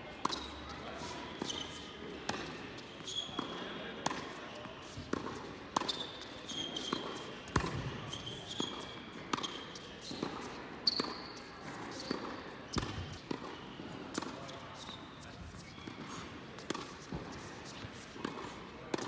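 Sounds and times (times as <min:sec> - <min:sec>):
sneaker squeaks: 0:00.2 - 0:19.0.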